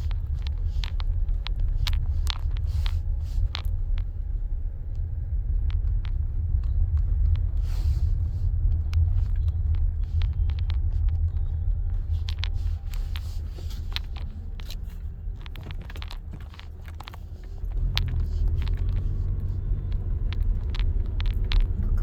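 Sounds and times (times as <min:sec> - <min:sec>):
car road noise rumble: 0:00.0 - 0:22.0
clicks and crackles: 0:00.0 - 0:22.0.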